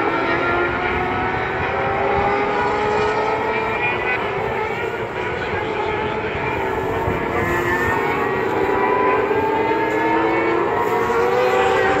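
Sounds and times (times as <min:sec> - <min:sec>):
superbike engines droning: 0:00.0 - 0:12.0.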